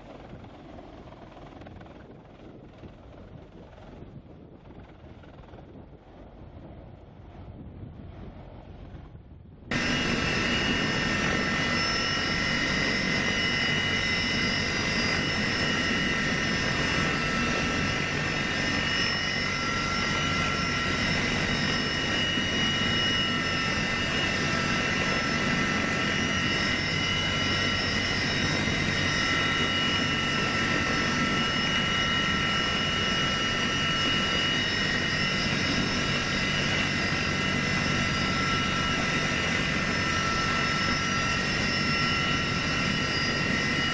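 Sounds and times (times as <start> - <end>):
aircraft engine with turbine whine: 0.0 - 43.9.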